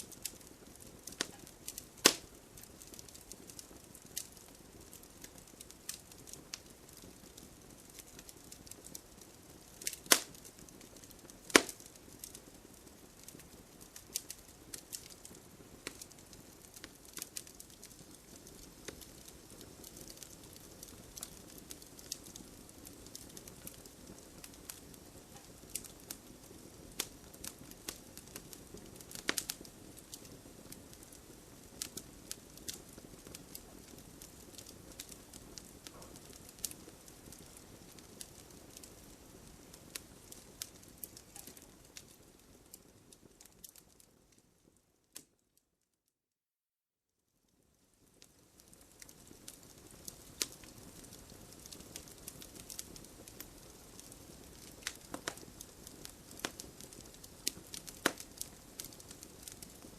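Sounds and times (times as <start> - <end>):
low rumble of flames: 0.0 - 44.8, 47.8 - 59.9
campfire popping and crackling: 0.0 - 45.4, 48.0 - 59.9.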